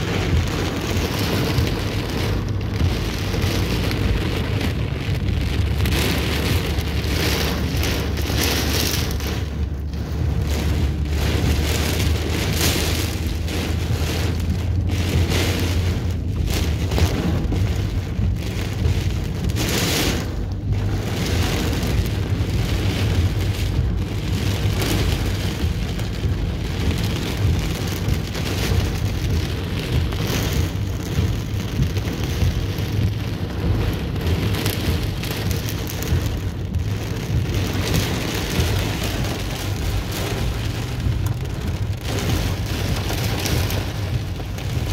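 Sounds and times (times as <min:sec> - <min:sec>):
car moving rumble: 0:00.0 - 0:44.9
heavy rain drumming on car roof: 0:00.0 - 0:44.9.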